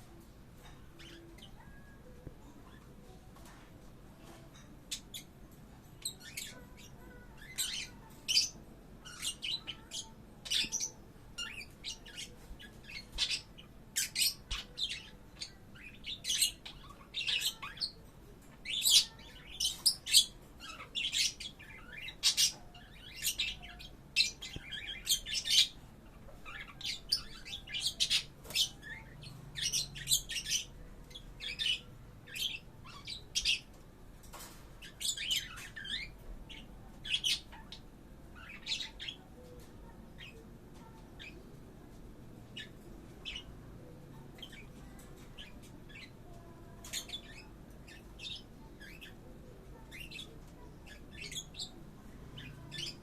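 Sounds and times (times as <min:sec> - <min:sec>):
parrots chirping and squawking: 0:00.6 - 0:03.6, 0:04.2 - 0:41.4, 0:42.5 - 0:51.8.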